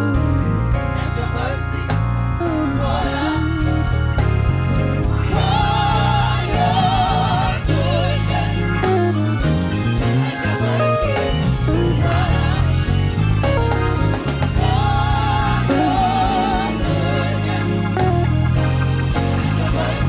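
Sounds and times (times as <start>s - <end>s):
deep bass line: 0.0s - 20.0s
gospel choir singing: 0.0s - 20.0s
keyboard: 0.0s - 20.0s.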